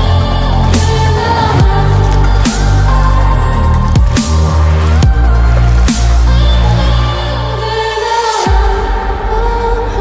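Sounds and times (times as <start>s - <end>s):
music with heavy bass line: 0.0s - 10.0s.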